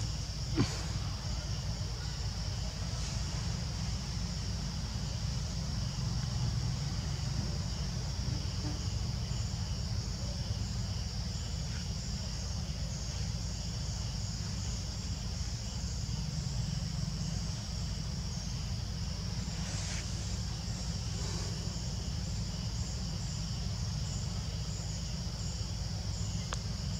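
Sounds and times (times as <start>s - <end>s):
insects trilling: 0.0s - 26.9s
low steady rumble: 0.0s - 26.9s.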